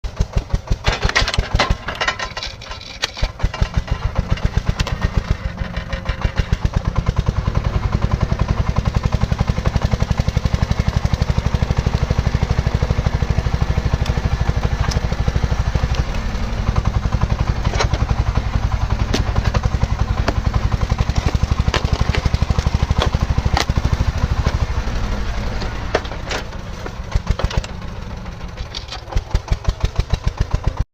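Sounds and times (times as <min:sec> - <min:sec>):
tractor engine thumping: 0:00.0 - 0:30.8.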